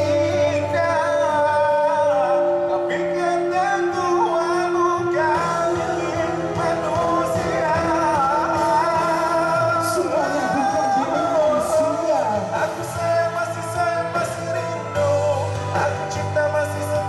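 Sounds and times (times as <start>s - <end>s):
live band playing pop ballad: 0.0s - 17.0s
men singing through a pa: 0.0s - 17.0s.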